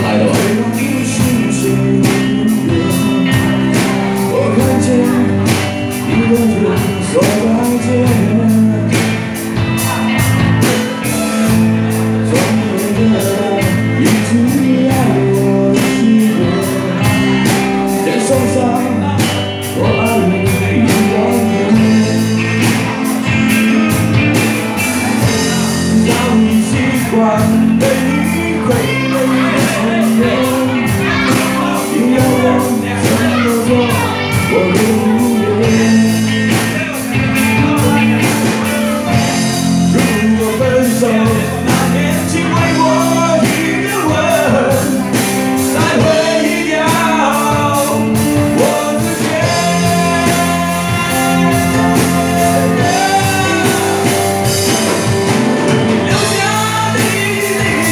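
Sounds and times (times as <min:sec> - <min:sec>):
bass and accompaniment: 0:00.0 - 0:57.9
drum beat: 0:00.0 - 0:57.9
person singing lead: 0:00.0 - 0:57.9.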